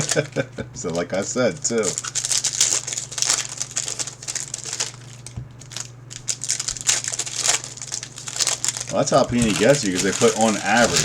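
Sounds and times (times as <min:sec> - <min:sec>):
low electrical hum: 0:00.0 - 0:11.0
wrappers crinkling and tearing: 0:00.0 - 0:11.0.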